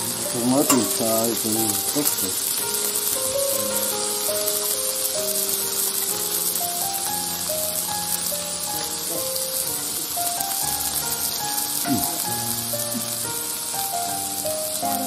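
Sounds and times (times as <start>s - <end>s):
background music: 0.0s - 15.0s
meat sizzling on grill plate: 0.0s - 15.0s.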